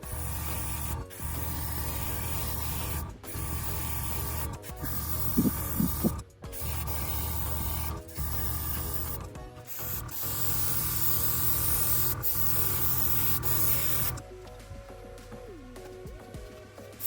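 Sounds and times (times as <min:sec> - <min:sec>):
spray paint hissing: 0:00.0 - 0:14.2.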